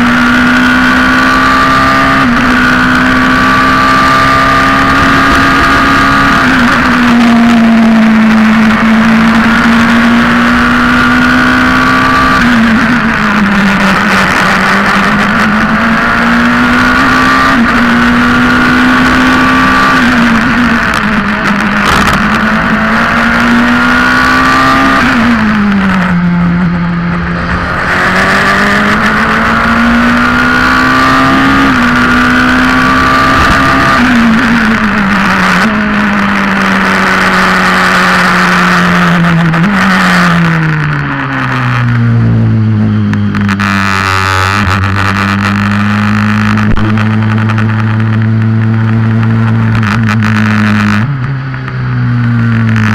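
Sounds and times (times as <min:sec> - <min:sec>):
race car engine revving: 0:00.0 - 0:52.9
wind and tyre noise: 0:00.0 - 0:52.9.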